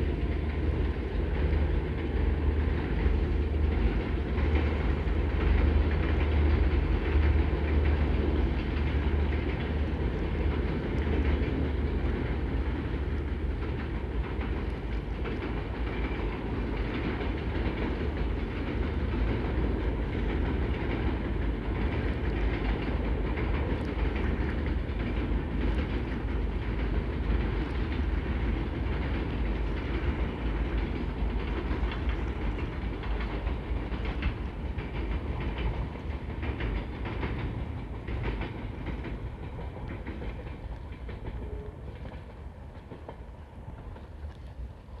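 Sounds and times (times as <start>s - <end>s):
train rumbling and clattering: 0.0s - 45.0s.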